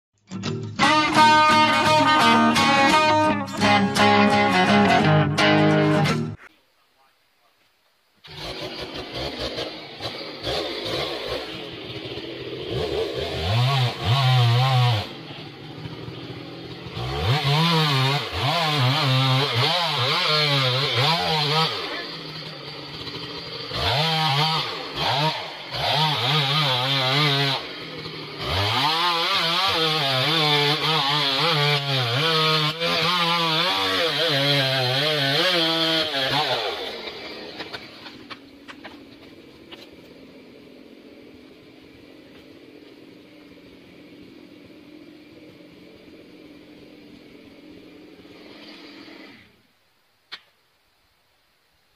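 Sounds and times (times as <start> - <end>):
chainsaw cutting wood: 0.4 - 6.3, 8.2 - 49.7.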